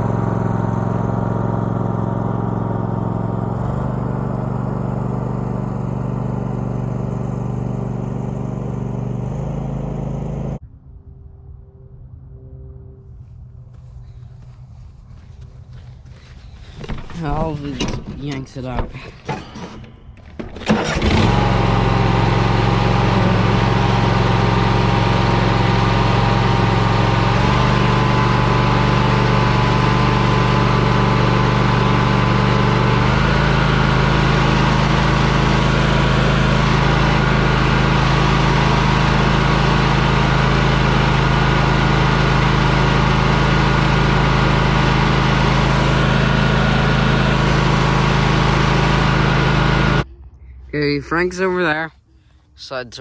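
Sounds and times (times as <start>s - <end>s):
vehicle engine idling: 0.0s - 10.6s, 13.1s - 53.0s.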